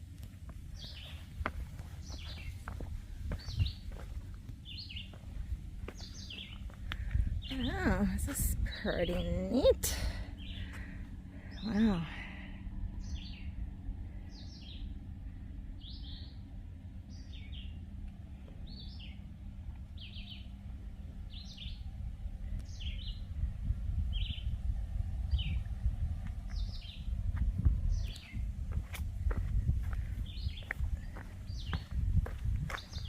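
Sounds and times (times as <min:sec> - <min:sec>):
low steady rumble: 0:00.0 - 0:33.0
songbird singing: 0:00.0 - 0:33.0.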